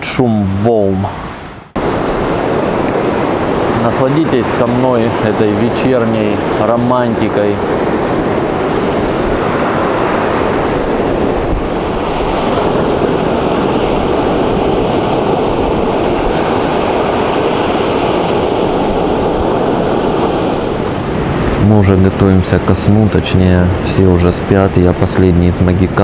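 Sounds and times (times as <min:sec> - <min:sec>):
small waves breaking on sand: 0:01.8 - 0:26.0.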